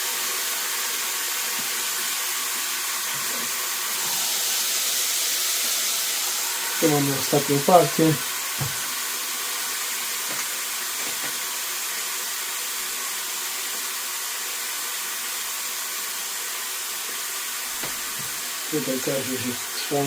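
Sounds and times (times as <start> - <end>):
chicken strips sizzling: 0.0 - 20.0.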